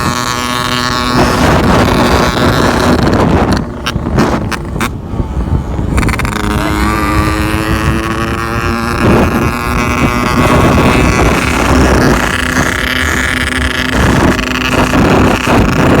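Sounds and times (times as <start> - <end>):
exhaust crackles: 0.0 - 16.0
two-stroke motorcycle engine: 0.0 - 16.0.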